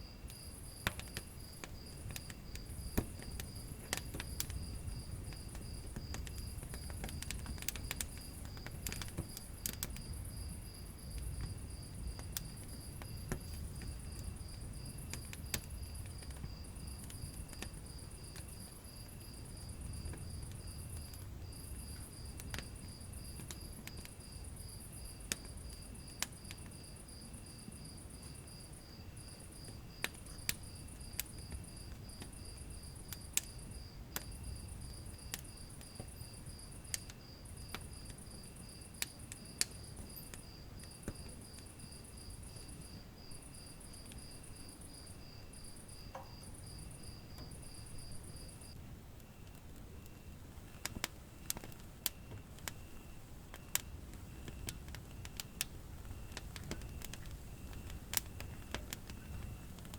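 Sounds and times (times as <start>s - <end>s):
fire crackling and popping: 0.2s - 59.9s
fire rumbling: 0.3s - 59.9s.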